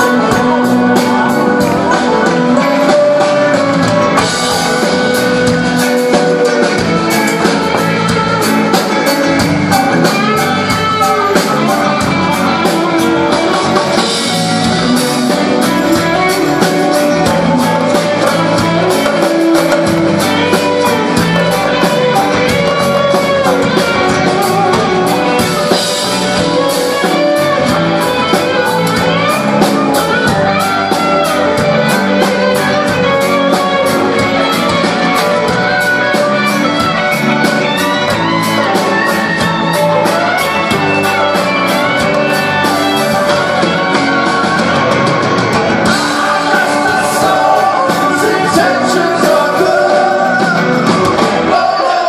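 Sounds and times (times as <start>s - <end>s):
drums keeping a steady beat: 0.0s - 52.0s
electric guitars: 0.0s - 52.0s.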